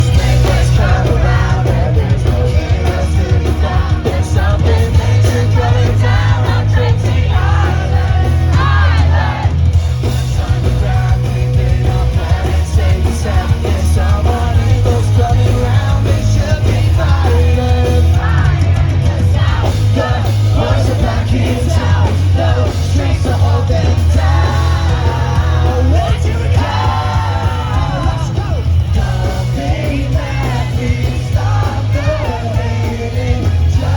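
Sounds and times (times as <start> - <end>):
audience yelling and singing: 0.0 - 33.9
pop-punk band playing live: 0.0 - 33.9.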